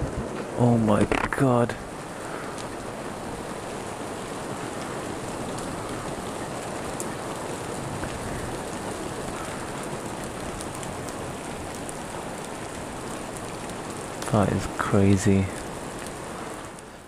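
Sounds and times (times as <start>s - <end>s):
rain hiss: 0.0s - 17.0s
raindrop ticks: 0.1s - 17.0s.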